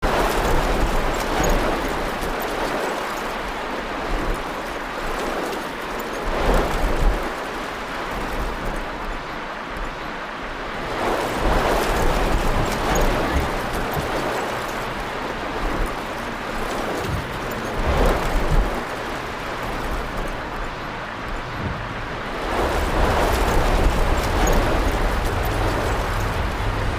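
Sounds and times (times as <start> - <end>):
storm wind buffeting microphone: 0.0 - 26.9.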